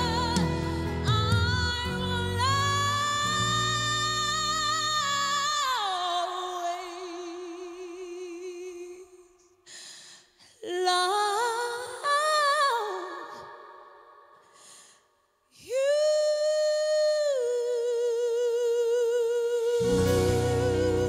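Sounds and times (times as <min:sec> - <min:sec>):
woman singing with vibrato: 0:00.0 - 0:09.4, 0:10.6 - 0:14.4, 0:15.5 - 0:21.0.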